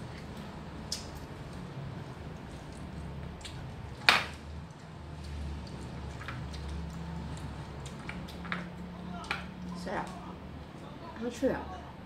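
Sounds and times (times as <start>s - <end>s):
wet chewing: 0.0s - 10.8s
steady low hum: 0.0s - 12.0s.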